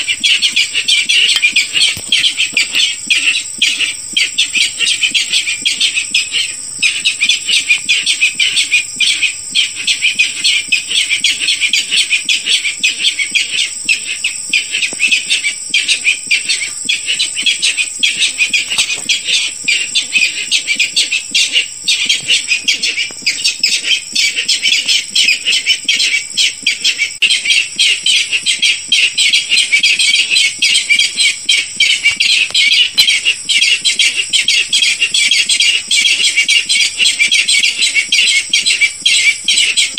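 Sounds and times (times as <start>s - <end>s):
bird calling in rapid repeated notes: 0.0s - 39.9s.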